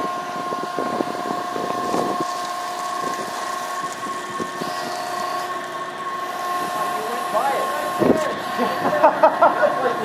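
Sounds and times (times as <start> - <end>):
high steady whine: 0.0 - 10.0
ship machinery hum: 0.0 - 10.0.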